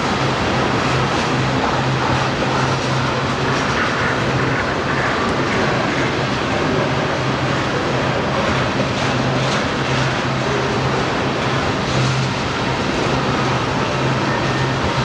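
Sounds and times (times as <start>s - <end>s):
low hum: 0.0s - 15.0s
train wheels rumbling on rail: 0.0s - 15.0s.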